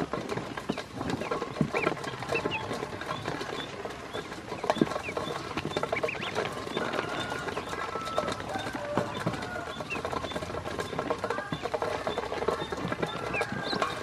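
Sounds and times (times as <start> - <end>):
ducklings peeping: 0.0 - 14.0
small feet scrabbling on steel bowl: 0.0 - 14.0.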